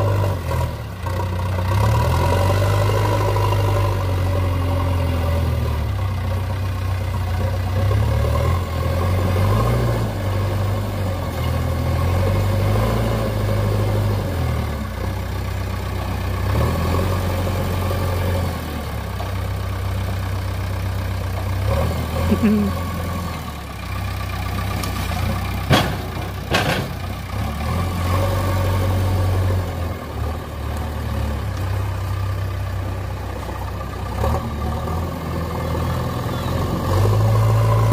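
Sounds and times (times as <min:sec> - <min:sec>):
diesel engine under load: 0:00.0 - 0:37.9.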